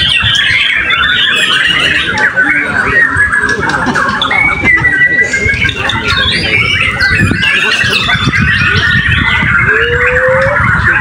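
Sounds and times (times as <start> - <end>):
many birds whistling and chirping: 0.0 - 11.0.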